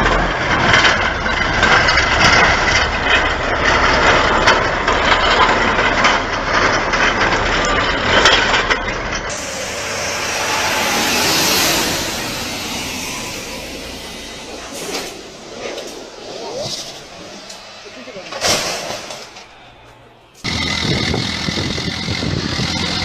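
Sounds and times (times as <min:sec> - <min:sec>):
knocks and clatter: 0:00.0 - 0:19.6
heavy vehicle engine under load: 0:00.0 - 0:23.0.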